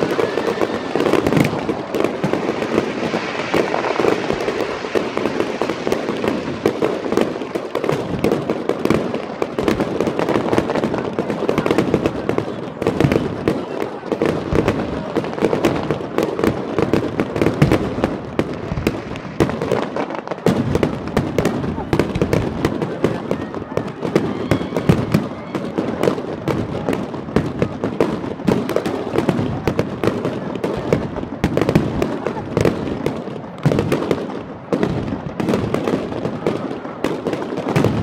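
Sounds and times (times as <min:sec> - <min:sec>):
fireworks bangs and pops: 0:00.0 - 0:38.0.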